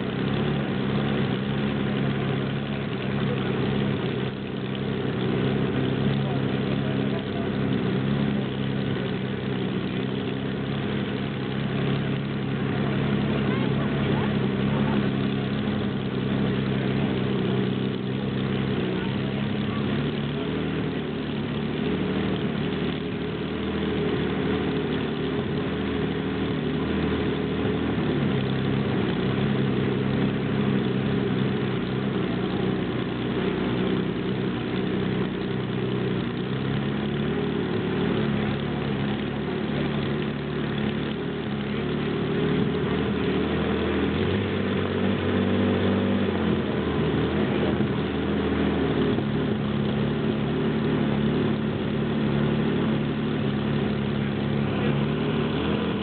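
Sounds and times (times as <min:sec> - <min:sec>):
boat engine idling: 0:00.0 - 0:56.0.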